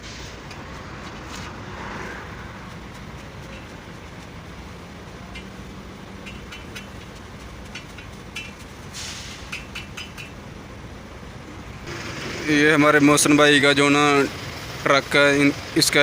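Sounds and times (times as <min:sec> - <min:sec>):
low engine-like rumble: 0:00.0 - 0:16.0.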